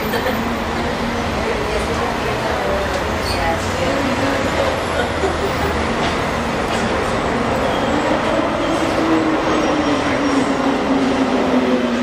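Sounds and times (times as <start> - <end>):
cable car carriage rumbling: 0.0 - 12.0.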